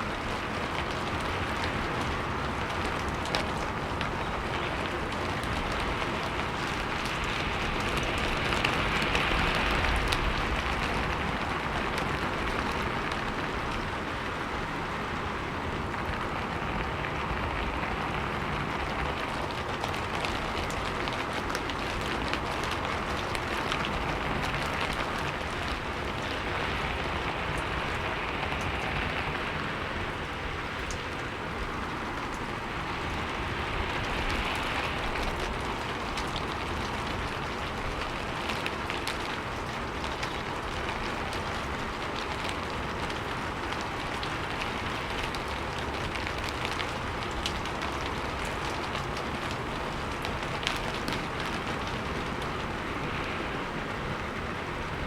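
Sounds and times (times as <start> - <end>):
steady rainfall pattering: 0.0 - 55.0.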